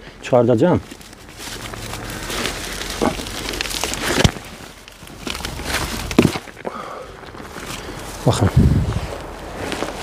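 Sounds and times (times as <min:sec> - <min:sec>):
dry grass rustling and crackling: 0:00.0 - 0:10.0.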